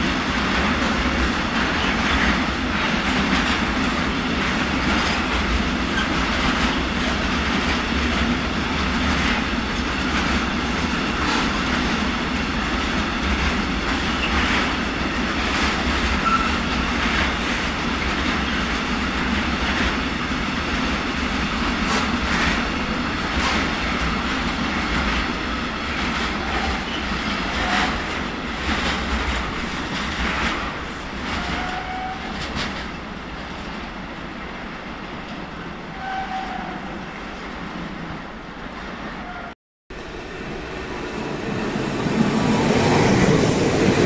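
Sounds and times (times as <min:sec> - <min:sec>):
train wagons rumbling: 0:00.0 - 0:44.0.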